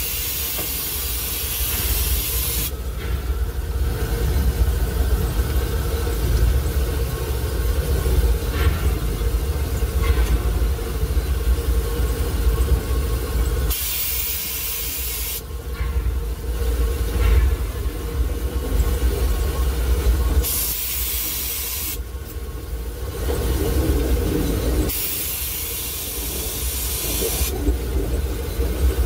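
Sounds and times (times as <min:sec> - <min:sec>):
loud hiss of steam: 0:00.0 - 0:04.8, 0:07.1 - 0:27.6
steam locomotive rumble: 0:00.0 - 0:29.0.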